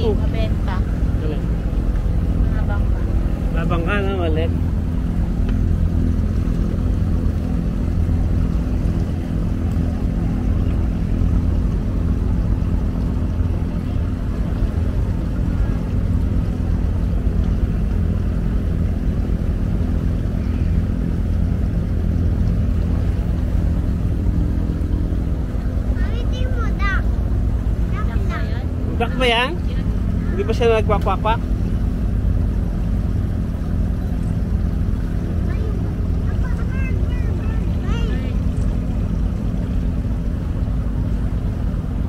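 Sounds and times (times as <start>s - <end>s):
boat diesel engine droning: 0.0s - 42.0s.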